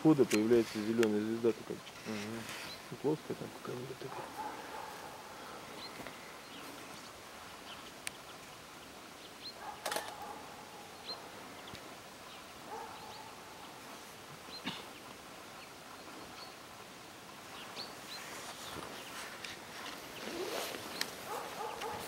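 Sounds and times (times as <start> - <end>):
birds chirping: 0.0 - 22.0
faint outdoor hiss: 0.0 - 22.0.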